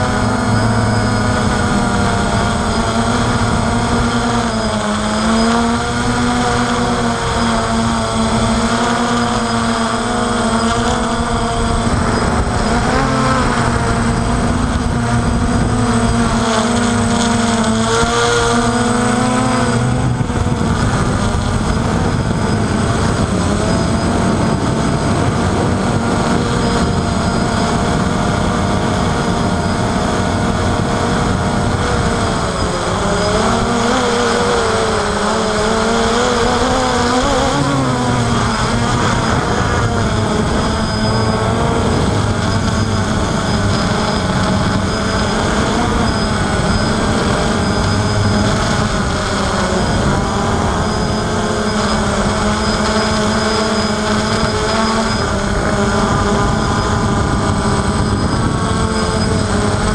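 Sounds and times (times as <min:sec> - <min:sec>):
drone motors whining: 0:00.0 - 0:59.9
rushing wind noise: 0:00.0 - 0:59.9.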